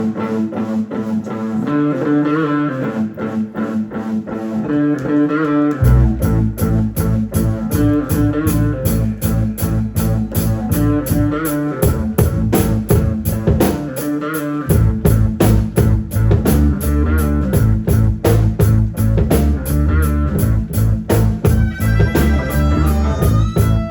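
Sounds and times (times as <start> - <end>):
guitar riff: 0.0 - 23.9
rock band playing: 0.0 - 23.9.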